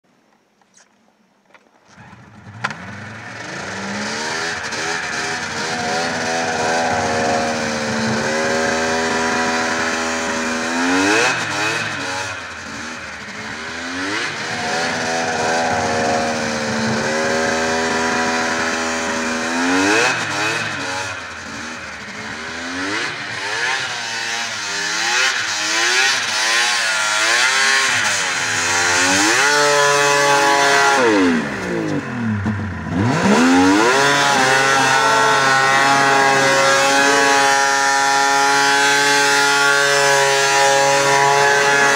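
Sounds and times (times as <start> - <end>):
snowmobile engine revving: 1.9 - 41.9.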